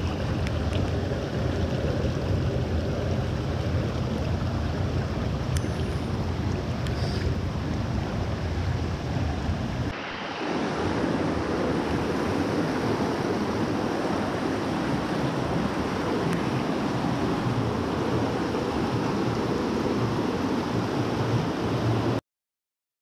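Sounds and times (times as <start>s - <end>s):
creek water rushing: 0.0s - 22.2s.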